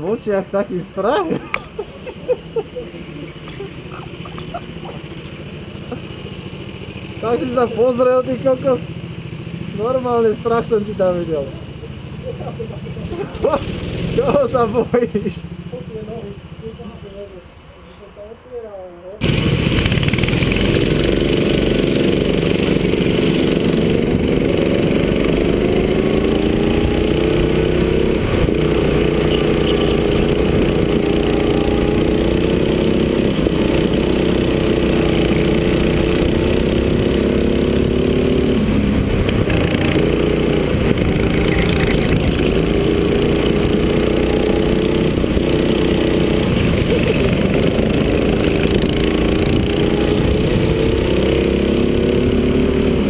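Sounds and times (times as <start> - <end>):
go-kart engine revving: 0.0 - 17.6, 19.2 - 53.0.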